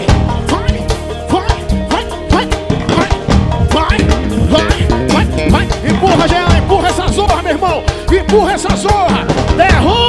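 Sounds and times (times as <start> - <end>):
driving percussion: 0.0 - 10.0
heavy bass line: 0.0 - 10.0.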